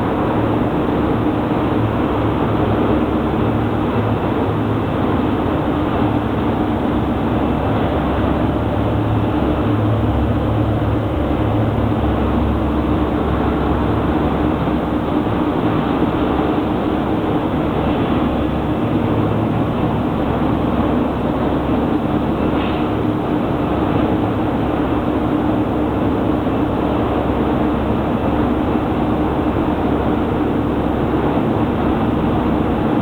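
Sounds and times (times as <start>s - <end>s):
industrial machinery hum: 0.0s - 33.0s.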